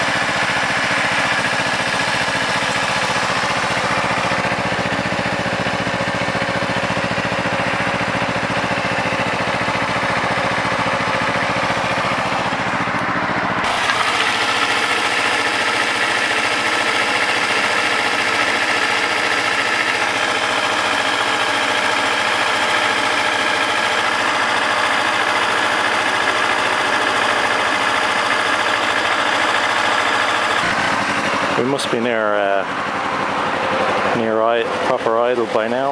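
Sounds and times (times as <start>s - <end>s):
motorcycle engine idling: 0.0s - 35.9s.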